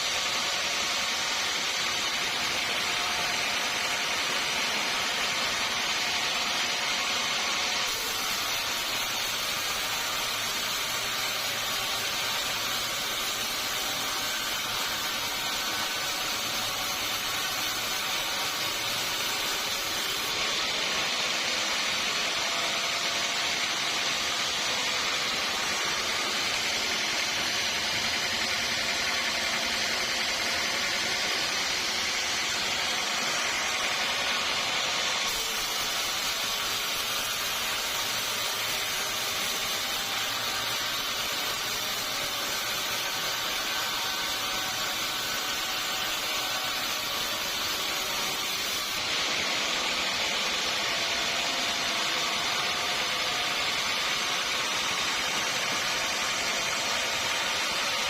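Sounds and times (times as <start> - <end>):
sawmill blade cutting log: 0.0 - 58.0.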